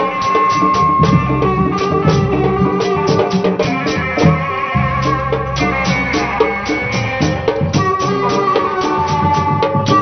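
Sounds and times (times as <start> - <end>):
drums beating: 0.0 - 10.0.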